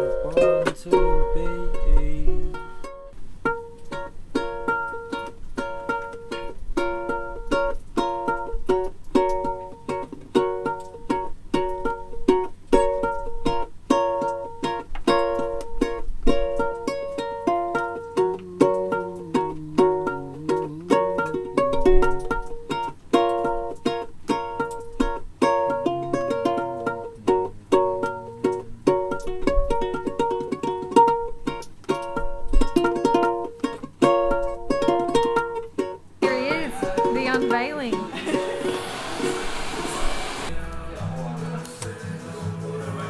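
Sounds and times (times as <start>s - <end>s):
ukulele playing: 0.0s - 43.0s.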